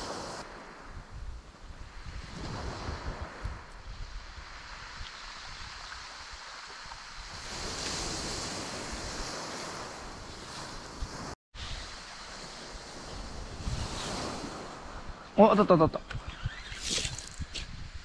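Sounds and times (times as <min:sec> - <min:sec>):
wind on microphone: 0:00.0 - 0:15.4, 0:16.0 - 0:18.0
sea waves washing ashore: 0:00.0 - 0:15.8.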